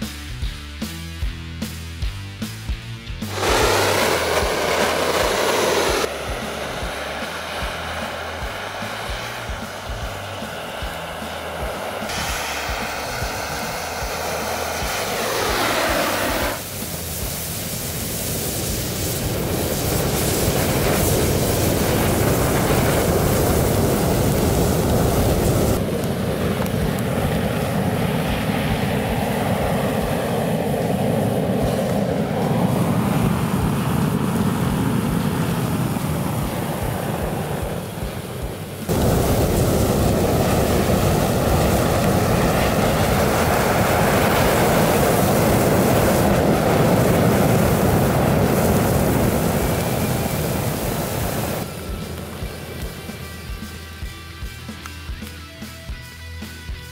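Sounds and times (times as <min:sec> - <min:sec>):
sparklers burning with rushing hiss: 0:03.2 - 0:55.7.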